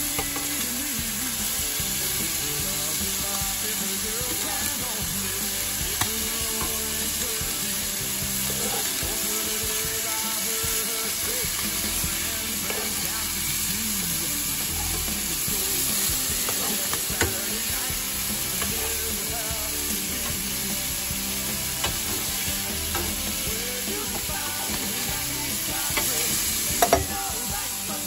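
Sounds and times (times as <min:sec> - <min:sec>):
fish fillets sizzling in pan: 0:00.0 - 0:28.0.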